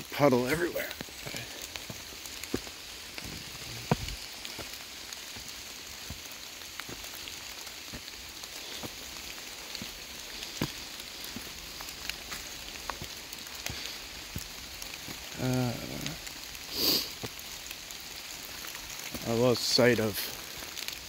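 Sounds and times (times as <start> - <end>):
sharp rain ticks: 0.0 - 21.0
torrential rain hissing: 0.0 - 21.0.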